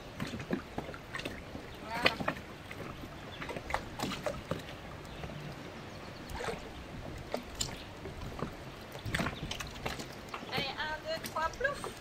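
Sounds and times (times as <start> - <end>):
water sloshing around boat: 0.0 - 12.0.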